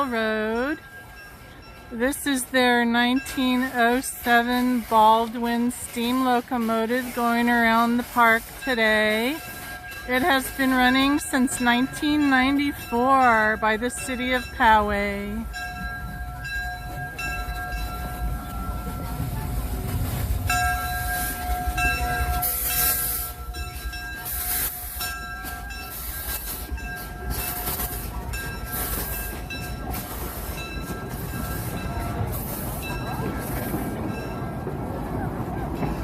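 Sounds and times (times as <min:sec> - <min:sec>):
steam train running rumble: 0:00.0 - 0:36.0.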